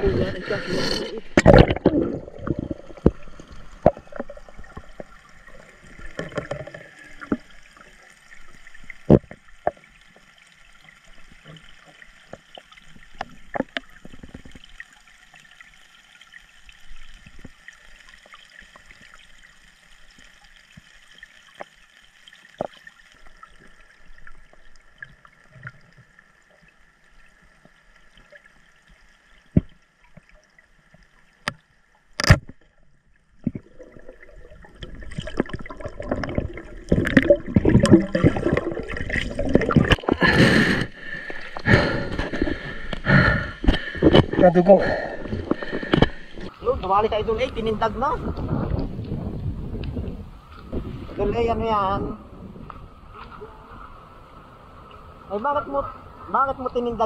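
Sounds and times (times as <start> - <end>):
water gurgling and trickling: 0.0 - 57.0.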